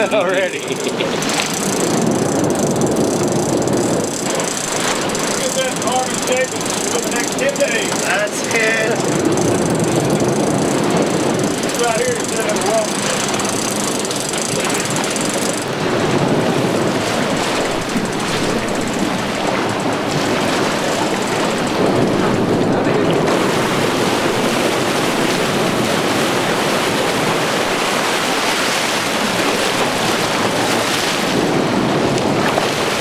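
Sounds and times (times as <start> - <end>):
water rushing along boat hull: 0.0 - 33.0
wind noise on microphone: 0.0 - 33.0.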